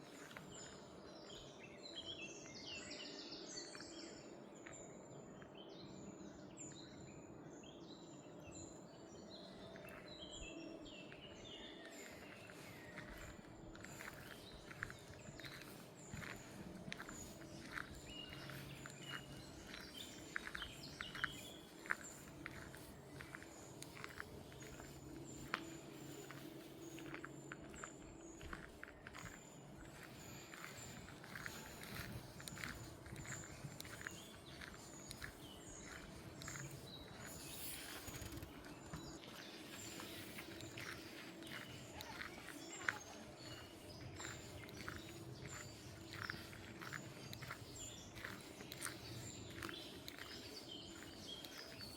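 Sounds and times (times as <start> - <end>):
footsteps on a path: 0.0 - 2.0, 9.2 - 51.9
small birds chirping: 0.0 - 51.9.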